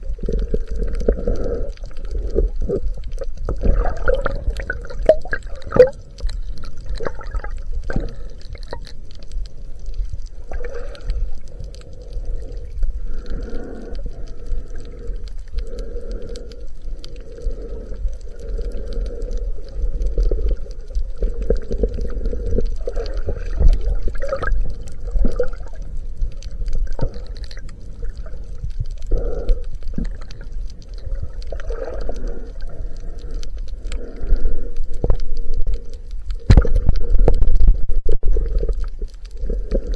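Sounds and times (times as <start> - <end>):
muffled gurgling and sloshing: 0.0 - 39.9
underwater rumble of moving water: 0.0 - 39.9
small clicks: 4.3 - 39.9.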